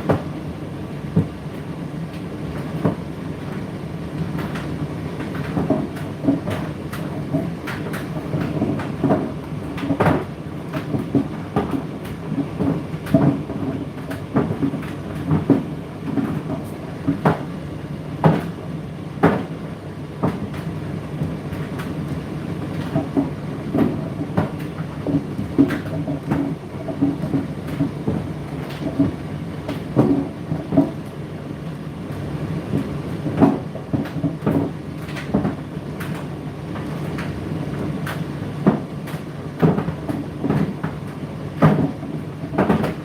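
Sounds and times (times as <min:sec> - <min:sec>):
laundry knocking in drum: 0:00.0 - 0:00.4, 0:04.4 - 0:17.6, 0:18.2 - 0:18.6, 0:19.2 - 0:19.6, 0:20.2 - 0:31.1, 0:32.6 - 0:43.0.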